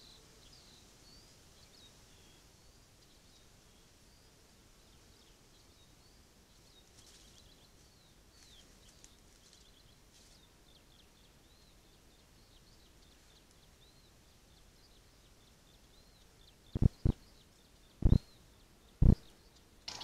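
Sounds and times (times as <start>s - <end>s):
faint birdsong chirps: 0.0s - 20.0s
low microphone hiss: 0.0s - 20.0s.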